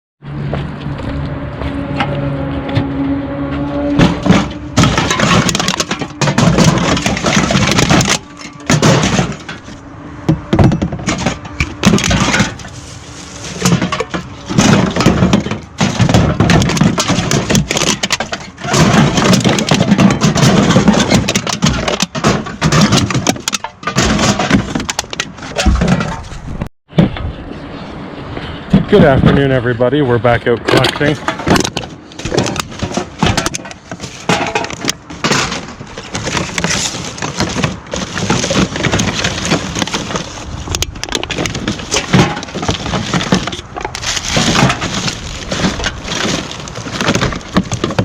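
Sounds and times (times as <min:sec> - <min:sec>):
loud crashing and clattering: 0:03.9 - 0:26.3, 0:30.7 - 0:48.0.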